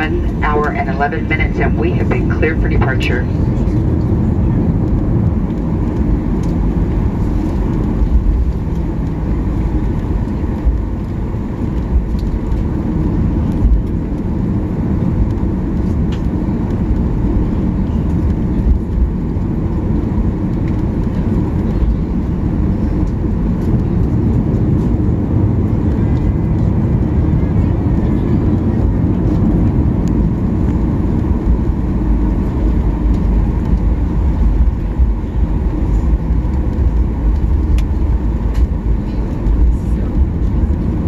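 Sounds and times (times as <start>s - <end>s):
jet engines rumbling: 0.0s - 41.0s.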